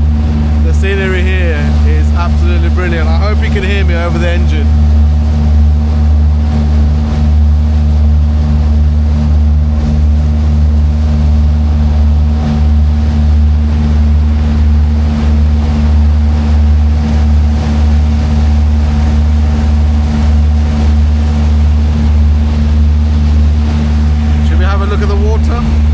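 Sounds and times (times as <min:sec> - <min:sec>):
boat engine droning: 0:00.0 - 0:25.9
wind: 0:00.0 - 0:25.9.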